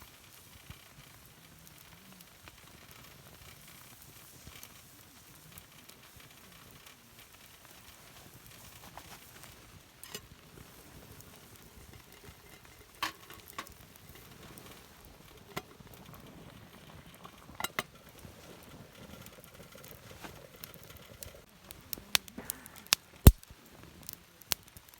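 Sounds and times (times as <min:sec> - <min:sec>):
campfire crackling: 0:00.0 - 0:24.9
fire popping: 0:00.0 - 0:24.9.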